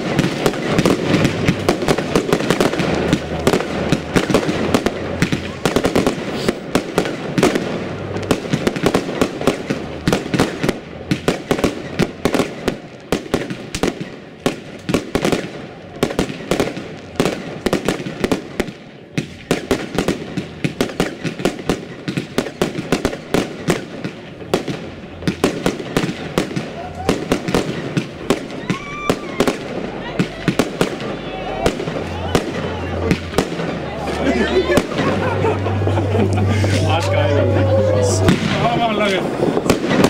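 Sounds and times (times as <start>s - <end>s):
fireworks bangs and pops: 0.0s - 37.2s, 38.0s - 40.0s.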